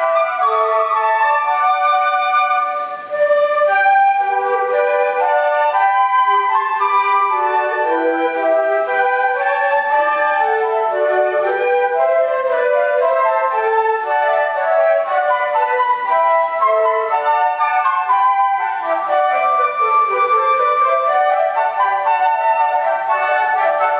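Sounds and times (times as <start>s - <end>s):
flute ensemble sustained notes: 0.0s - 23.9s.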